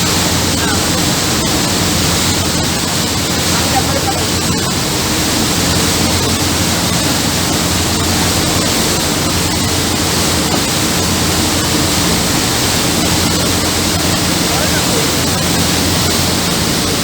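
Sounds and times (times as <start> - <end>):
low engine hum: 0.0 - 17.0
water rushing: 0.0 - 17.0.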